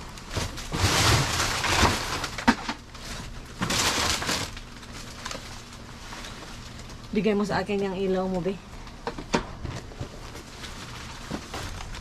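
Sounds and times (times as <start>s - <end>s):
plastic bags and cardboard rustling: 0.0s - 12.0s.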